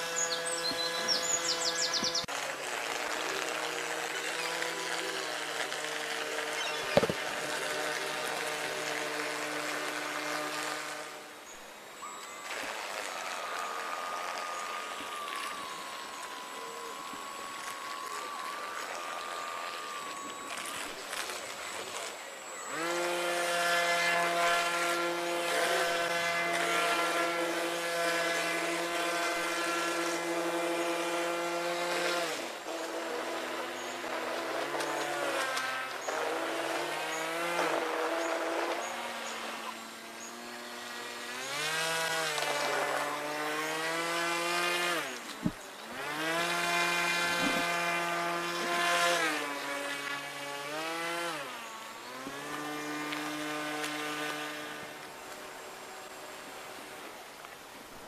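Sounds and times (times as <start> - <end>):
model boat engine revving: 0.0 - 57.9.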